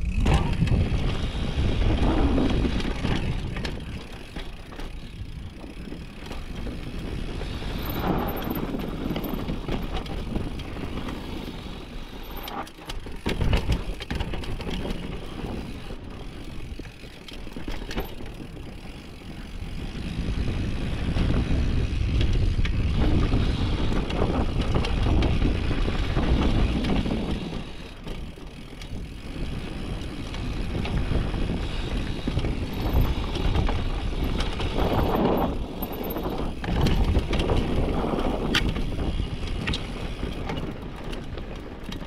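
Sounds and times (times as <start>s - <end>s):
bike clicks and rattles: 0.0s - 42.0s
tyres on dirt: 0.0s - 42.0s
wind buffeting microphone: 0.0s - 42.0s.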